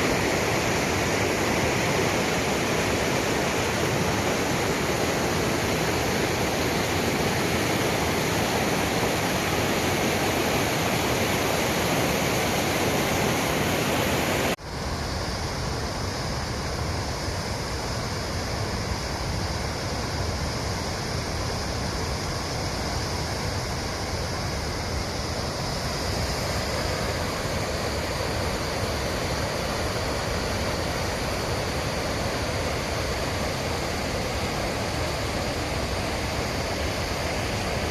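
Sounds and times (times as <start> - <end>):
rushing water roar: 0.0 - 37.9.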